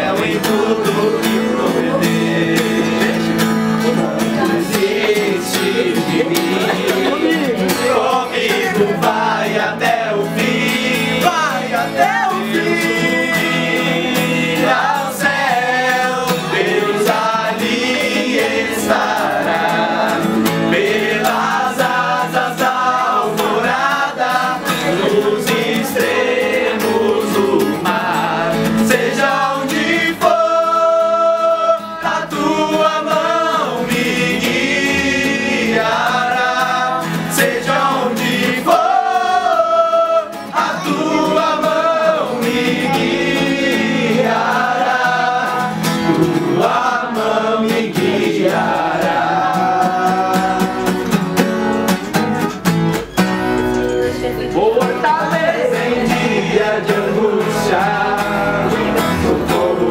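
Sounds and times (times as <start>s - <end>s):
group singing in unison: 0.0s - 52.2s, 54.4s - 59.9s
strummed acoustic guitar: 0.0s - 59.9s.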